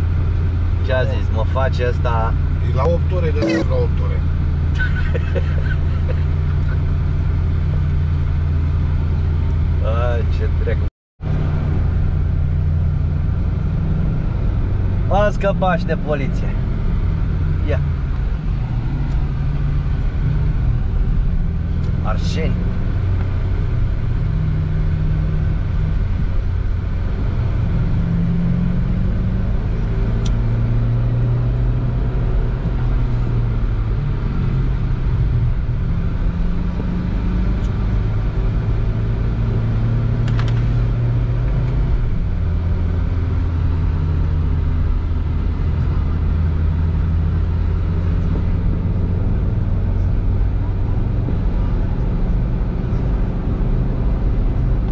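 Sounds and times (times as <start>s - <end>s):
diesel engine drone: 0.0s - 54.9s
road noise inside car cabin: 0.0s - 54.9s.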